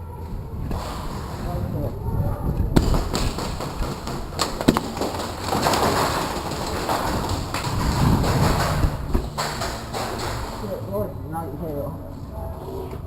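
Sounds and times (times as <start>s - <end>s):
noisy din of play: 0.0s - 13.0s.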